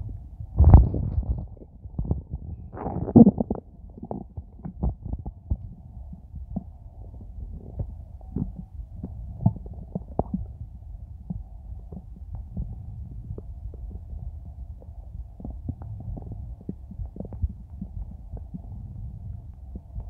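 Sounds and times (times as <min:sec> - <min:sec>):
stomach growling and gurgling: 0:00.0 - 0:20.0.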